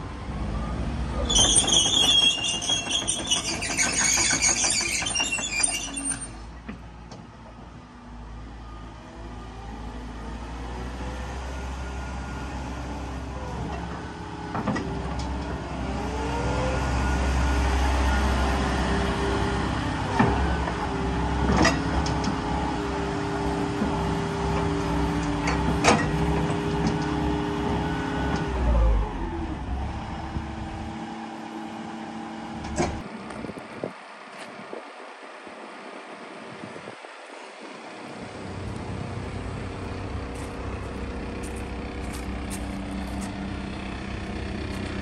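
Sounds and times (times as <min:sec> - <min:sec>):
excavator diesel engine running: 0:00.0 - 0:34.2, 0:37.6 - 0:45.0.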